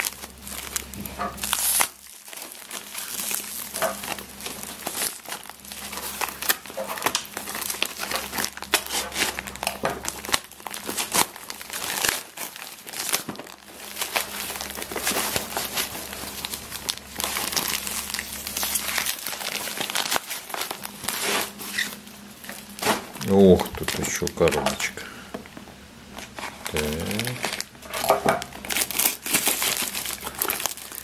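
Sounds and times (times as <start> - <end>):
packing tape tearing and crinkling: 0.0 - 25.0, 26.1 - 31.0.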